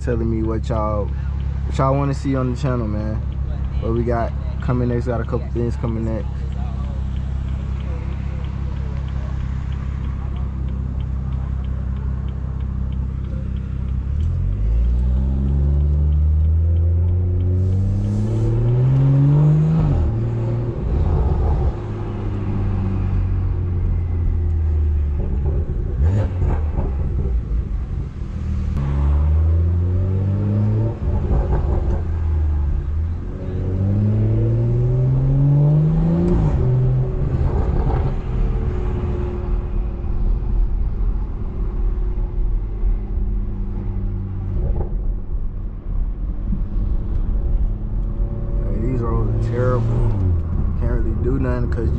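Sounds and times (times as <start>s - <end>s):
car engine accelerating hard: 0.1s - 45.4s, 46.1s - 51.9s.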